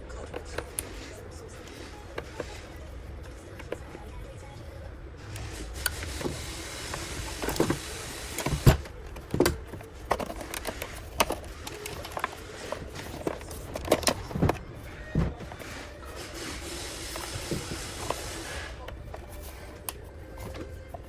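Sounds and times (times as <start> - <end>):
sharp clicks and knocks: 0.0 - 4.2, 5.3 - 21.0
small electric motor whirring: 0.0 - 21.0.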